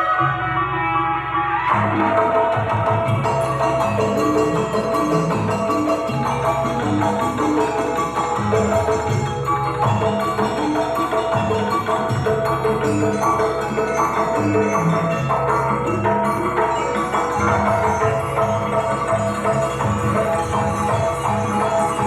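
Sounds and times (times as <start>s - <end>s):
mallet percussion dance music: 1.6s - 22.0s.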